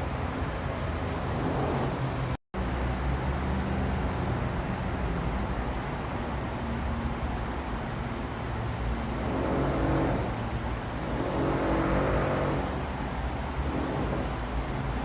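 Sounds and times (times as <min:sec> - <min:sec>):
motor vehicles passing: 0:00.0 - 0:15.0
road traffic rumble and hiss: 0:00.0 - 0:15.0.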